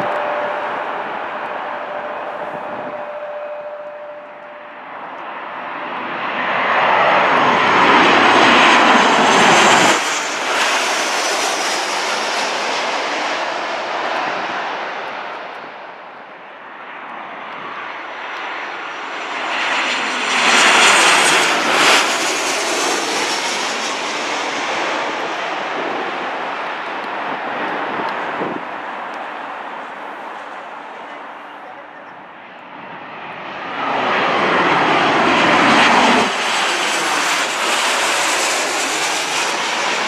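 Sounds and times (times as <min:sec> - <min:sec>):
high jet engine whine: 0:00.0 - 0:40.0
jet airliner passing low overhead: 0:00.0 - 0:40.0.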